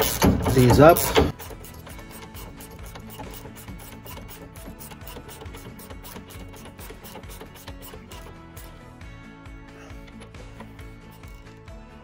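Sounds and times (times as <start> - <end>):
ratchet wrench clicking: 0.0 - 8.8, 9.9 - 11.6
background music: 0.0 - 12.0.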